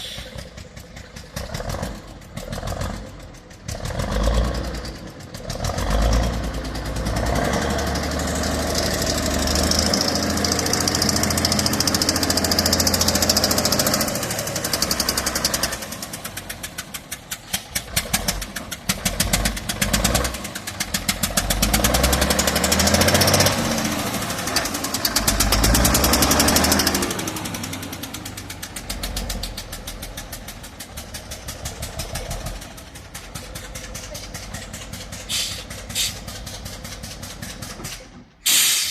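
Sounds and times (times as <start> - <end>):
truck diesel engine running roughly: 0.0 - 38.9.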